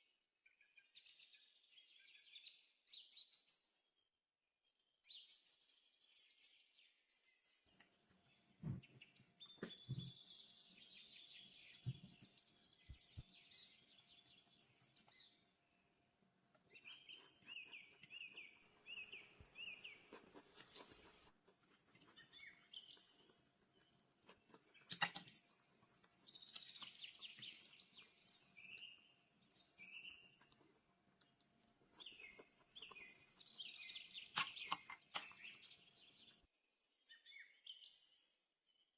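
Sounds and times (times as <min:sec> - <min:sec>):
faint birdsong: 0:00.0 - 0:38.9.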